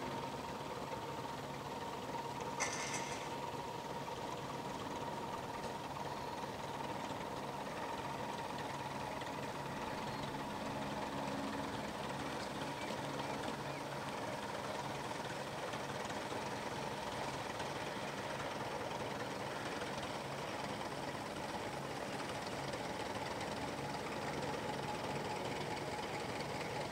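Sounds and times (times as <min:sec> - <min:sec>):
propeller plane engine droning: 0:00.0 - 0:26.9.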